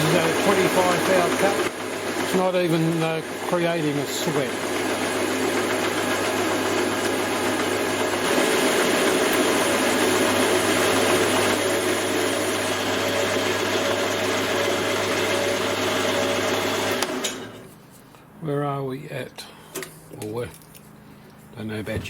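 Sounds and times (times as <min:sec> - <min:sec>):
metal lathe motor hum: 0:00.0 - 0:17.7.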